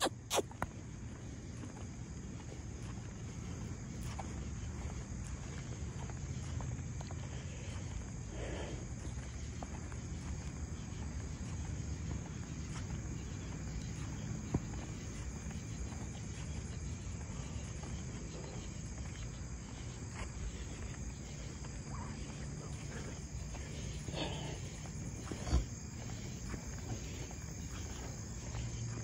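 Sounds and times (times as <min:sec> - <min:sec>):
night insects trilling: 0:00.0 - 0:29.0.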